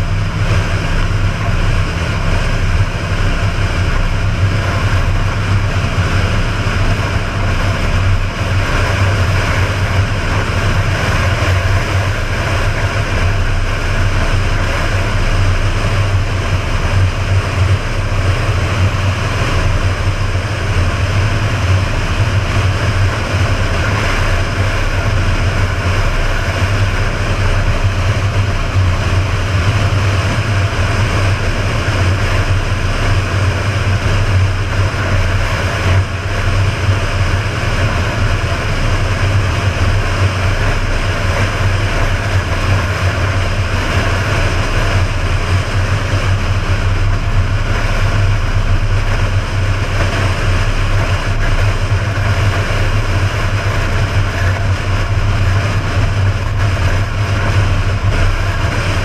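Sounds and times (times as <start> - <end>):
rushing wind: 0.0 - 59.0
vehicle cruising at highway speed: 0.0 - 59.0.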